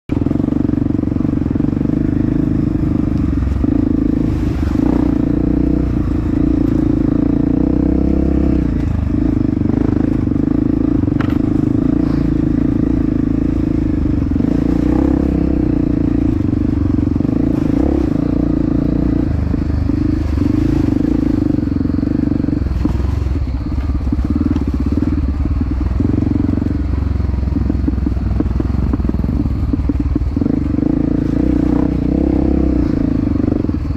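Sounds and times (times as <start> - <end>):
dirt bike engine running: 0.1 - 33.9
engine clatter: 0.1 - 33.9.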